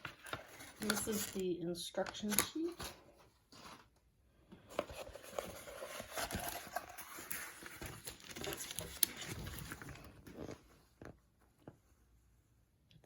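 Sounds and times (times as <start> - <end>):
paper and packaging rustling: 0.0 - 11.2.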